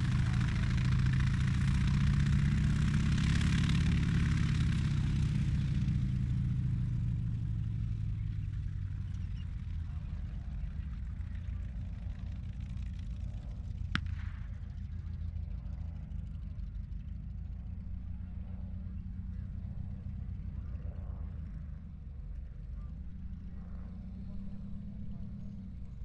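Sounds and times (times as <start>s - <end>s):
tank engines rumbling: 0.0s - 26.0s.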